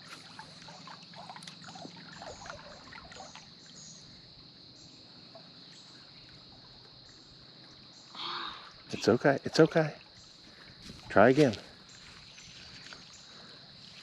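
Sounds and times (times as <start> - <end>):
creek water trickling: 0.0 - 14.0.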